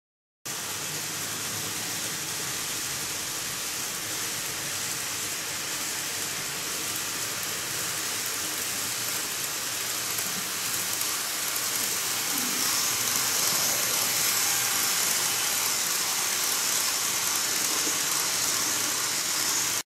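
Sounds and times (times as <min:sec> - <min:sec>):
model train wheels and motor whirring: 0:00.5 - 0:19.8.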